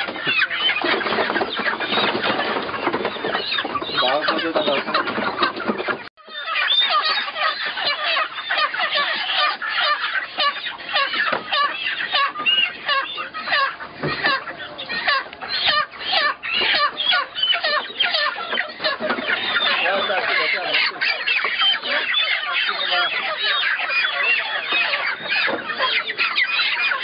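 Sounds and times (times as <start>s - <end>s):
chickens squawking and clucking: 0.0s - 27.0s.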